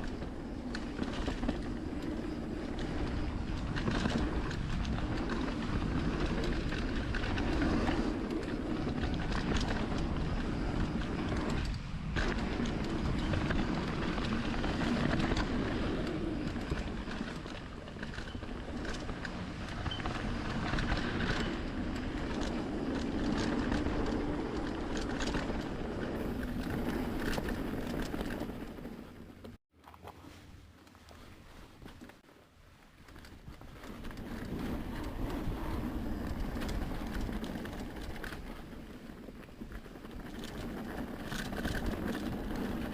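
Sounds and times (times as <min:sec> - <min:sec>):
bike rattling over bumps: 0:00.0 - 0:29.6, 0:33.0 - 0:42.9
tyres and wind rumble: 0:00.0 - 0:29.6, 0:30.2 - 0:42.9.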